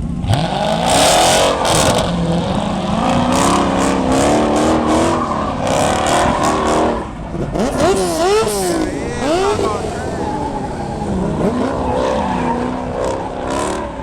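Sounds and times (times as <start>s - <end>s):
car engine revving hard: 0.2s - 14.0s.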